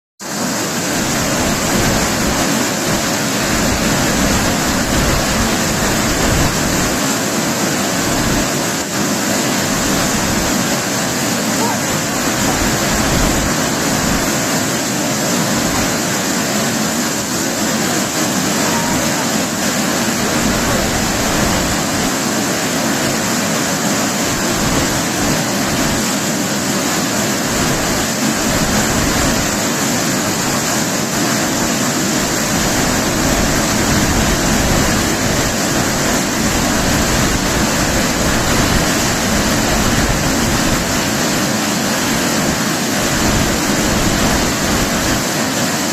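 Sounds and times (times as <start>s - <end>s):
waterfall roaring: 0.2s - 45.9s.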